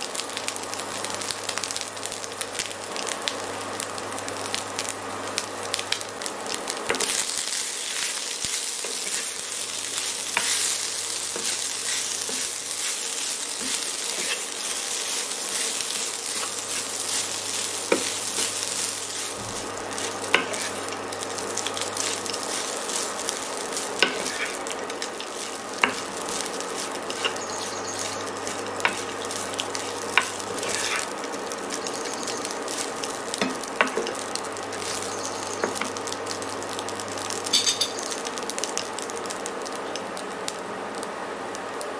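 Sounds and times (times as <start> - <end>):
rice sizzling in a pan: 0.0 - 41.9.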